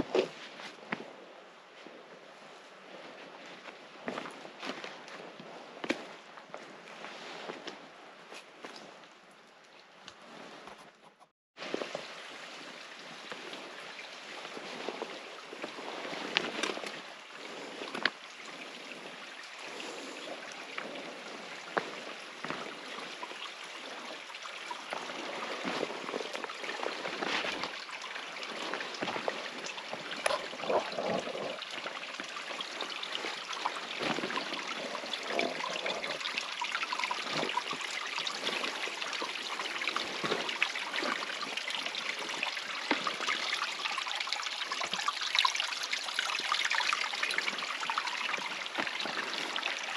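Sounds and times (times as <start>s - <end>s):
stream trickling: 0.0s - 10.8s, 11.6s - 49.9s.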